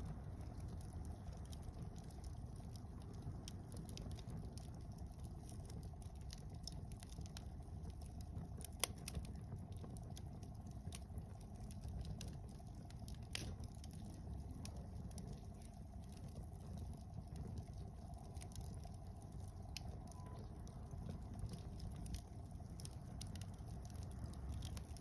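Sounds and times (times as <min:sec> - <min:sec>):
low fire rumble: 0:00.0 - 0:25.0
wood fire crackling: 0:00.0 - 0:25.0.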